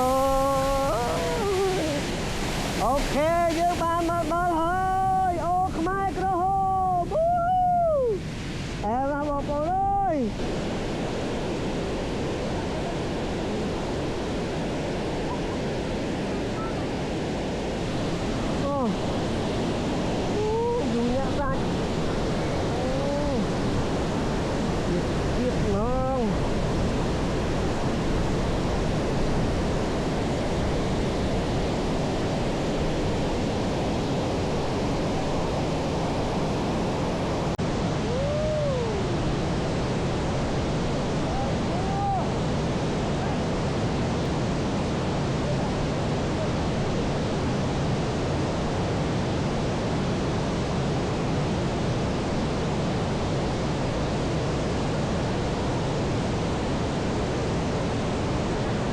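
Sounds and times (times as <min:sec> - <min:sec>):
fast-flowing water rushing: 0:00.0 - 0:58.9.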